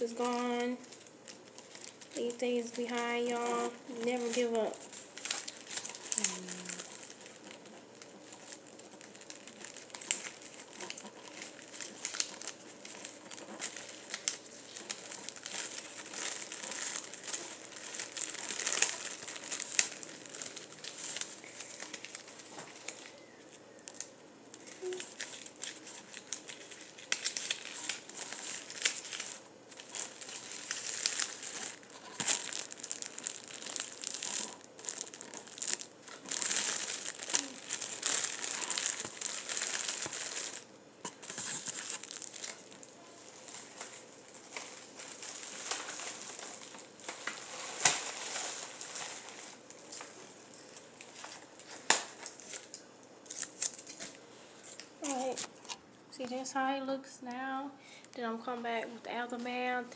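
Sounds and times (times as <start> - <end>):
plastic bags crinkling: 0.0 - 55.8.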